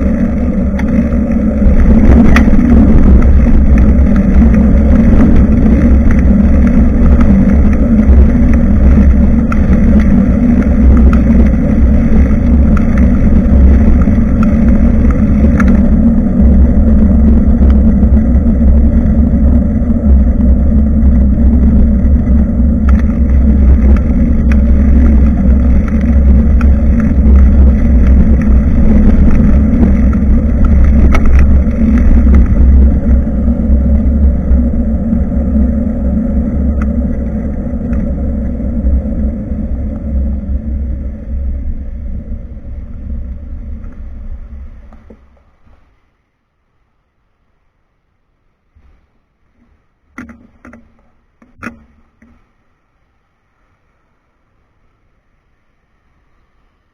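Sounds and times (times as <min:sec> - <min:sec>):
wind buffeting microphone: 0:00.0 - 0:45.8
tyre and road noise: 0:00.0 - 0:46.3.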